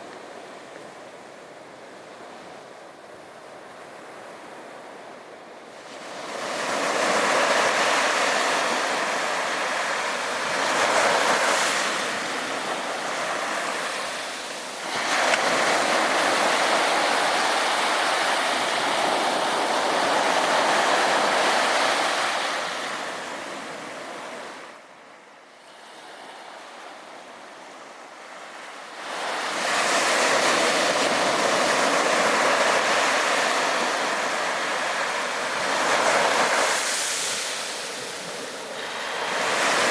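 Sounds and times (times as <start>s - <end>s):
sea waves breaking on beach: 5.7s - 24.9s, 25.6s - 39.9s.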